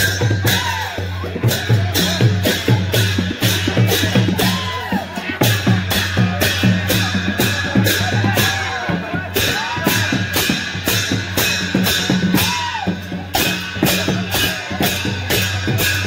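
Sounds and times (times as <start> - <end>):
deep drum beat: 0.0 - 16.0
hand cymbals clashing: 0.0 - 16.0.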